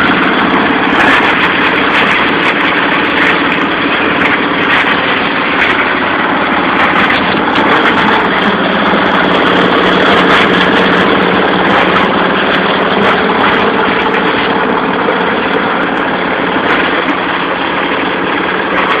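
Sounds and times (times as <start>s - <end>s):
crusher machine humming: 0.0s - 19.0s
dense rattling: 0.0s - 19.0s.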